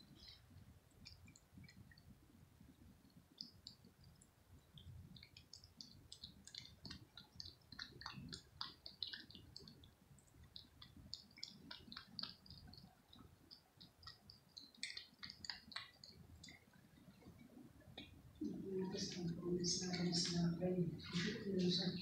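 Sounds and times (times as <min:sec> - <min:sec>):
cat eating wet food: 0:00.0 - 0:18.4.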